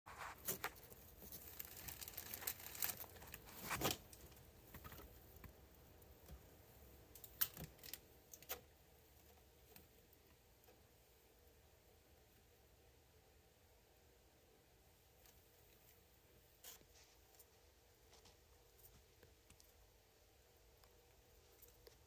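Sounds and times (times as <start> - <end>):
faint clicks and rustles: 0.1 - 11.6, 15.0 - 22.0
quiet hiss: 0.1 - 22.0.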